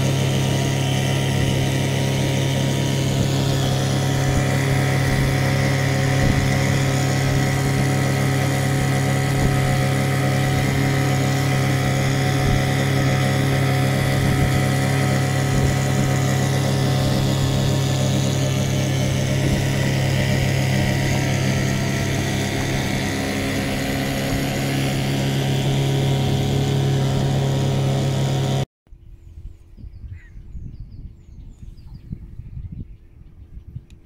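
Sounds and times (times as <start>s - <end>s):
outboard motor running: 0.0s - 28.7s.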